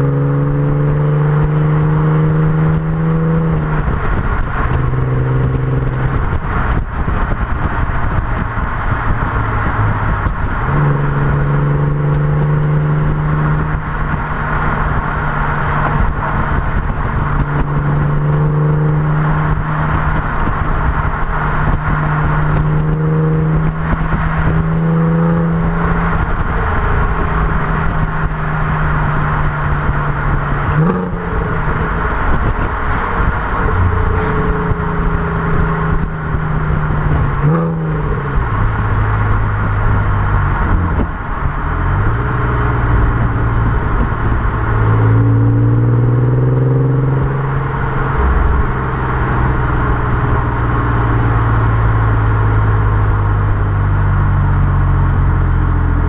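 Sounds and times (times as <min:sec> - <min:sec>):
car engine and exhaust: 0:00.0 - 0:56.0
road and wind noise: 0:00.0 - 0:56.0.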